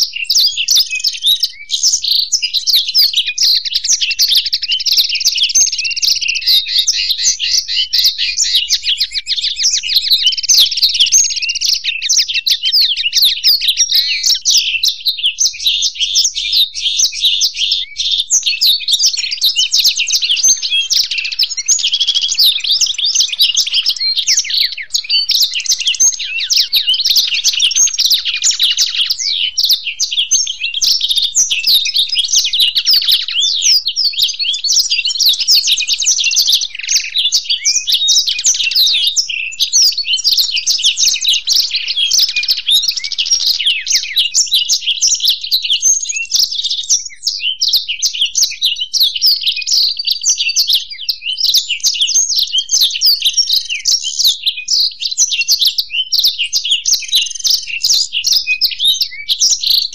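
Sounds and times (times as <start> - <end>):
finches twittering and trilling: 0.0 - 59.9.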